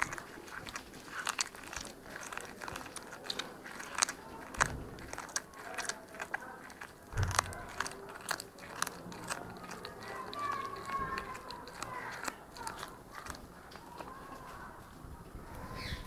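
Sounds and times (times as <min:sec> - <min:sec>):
cat crunching bones: 0:00.0 - 0:15.6.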